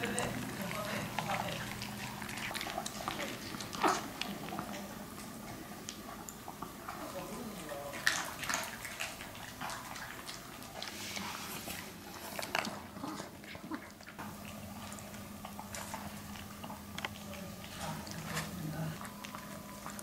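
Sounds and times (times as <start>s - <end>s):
dogs crunching dry kibble: 0.0s - 20.0s.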